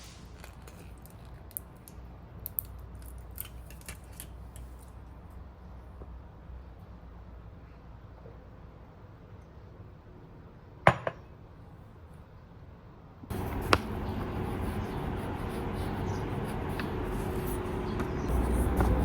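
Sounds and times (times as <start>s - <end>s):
background noise with faint hum: 0.0s - 19.0s.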